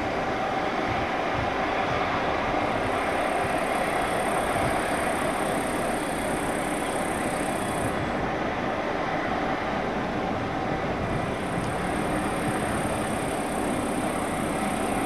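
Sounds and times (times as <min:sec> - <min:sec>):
high engine whine: 0:00.0 - 0:15.0
jet engines rushing: 0:00.0 - 0:15.0.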